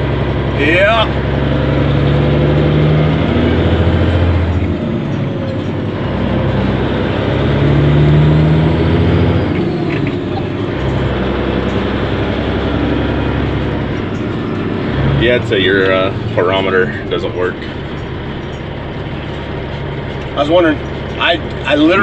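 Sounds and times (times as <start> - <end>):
diesel truck engine from cab: 0.0 - 22.0.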